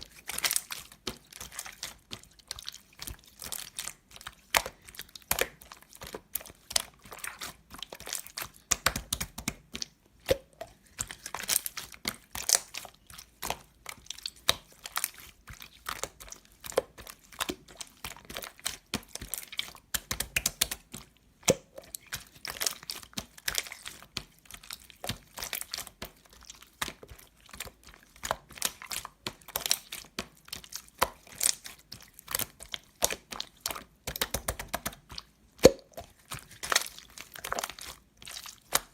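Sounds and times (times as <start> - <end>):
slime squeezed popping and crackling: 0.1 - 38.9.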